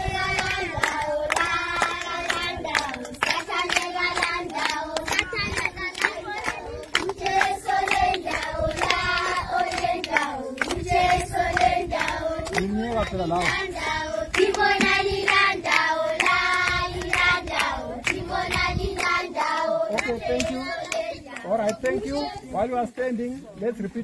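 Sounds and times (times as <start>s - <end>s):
children singing together: 0.0s - 12.8s, 13.8s - 21.3s
hands clapping in rhythm: 0.0s - 22.0s.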